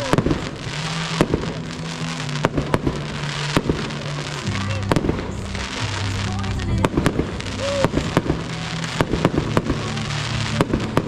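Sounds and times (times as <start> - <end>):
fireworks crackle: 0.0 - 11.0
music playing: 0.0 - 11.0.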